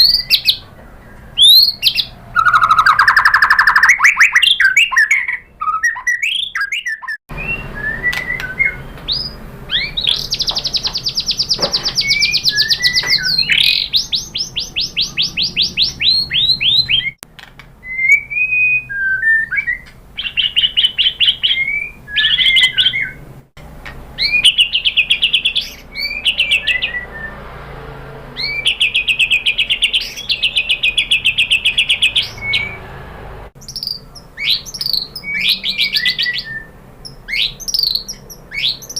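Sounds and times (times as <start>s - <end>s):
bird singing whistled notes: 0.0s - 17.2s, 17.8s - 23.2s, 24.2s - 27.6s, 28.4s - 33.0s, 33.6s - 38.9s.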